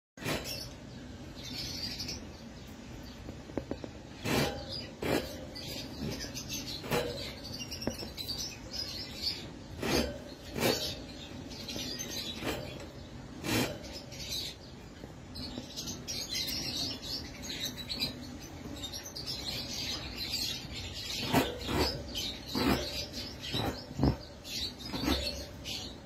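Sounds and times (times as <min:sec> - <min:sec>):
lovebirds chirping: 0:00.2 - 0:26.0.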